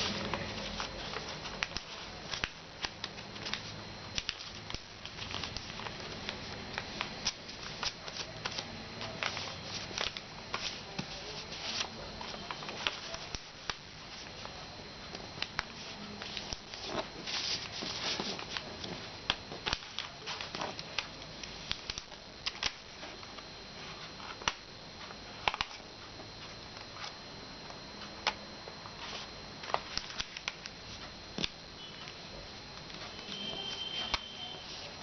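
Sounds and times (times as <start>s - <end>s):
paper folding and crinkling: 0.0s - 27.2s, 28.0s - 35.0s
faint high-pitched whine: 0.0s - 35.0s.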